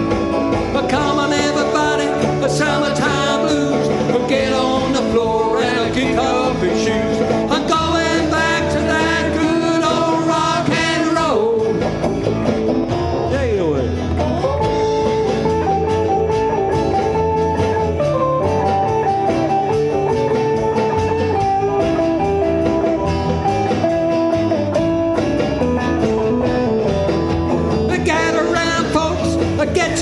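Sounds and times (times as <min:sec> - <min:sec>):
lead guitar melody: 0:00.0 - 0:30.0
rock and roll band playing: 0:00.0 - 0:30.0.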